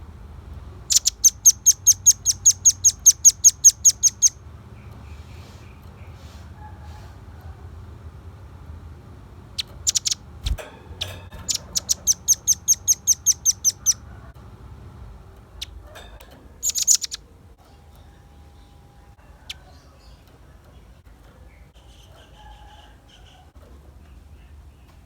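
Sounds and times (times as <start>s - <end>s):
low steady hum: 0.0s - 21.8s.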